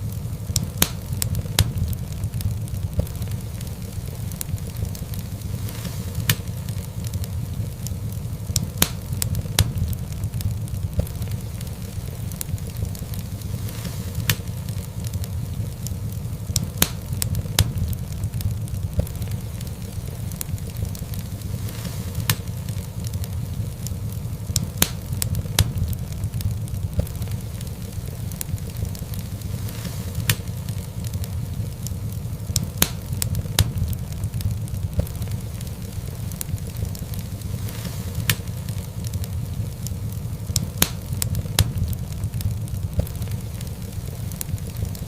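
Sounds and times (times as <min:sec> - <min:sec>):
fireplace fire crackling: 0:00.0 - 0:45.0
logs popping: 0:00.0 - 0:45.0
low rumble of flames: 0:00.0 - 0:45.0.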